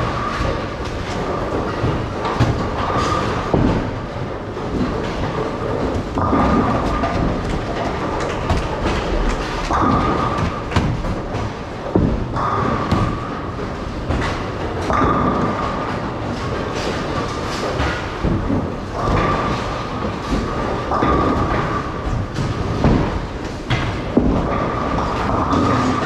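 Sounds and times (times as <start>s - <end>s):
bowling balls rolling: 0.0s - 26.0s
bowling pins crashing: 0.0s - 26.0s.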